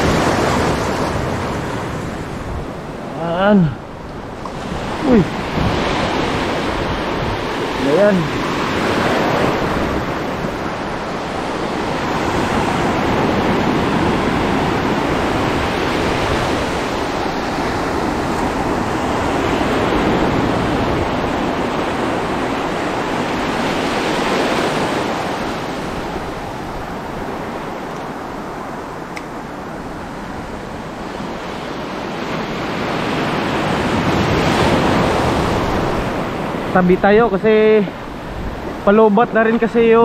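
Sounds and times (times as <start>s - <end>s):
waves washing on shore: 0.0s - 40.0s
wind buffeting microphone: 0.0s - 40.0s.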